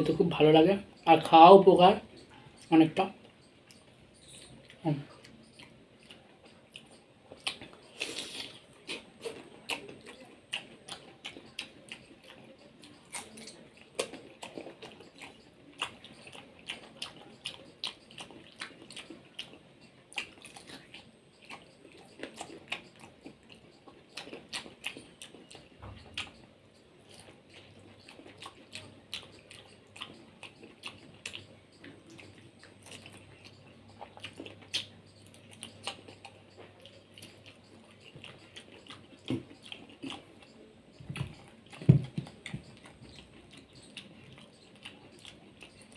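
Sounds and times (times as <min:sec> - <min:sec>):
wet chewing and smacking: 0:00.0 - 0:45.9.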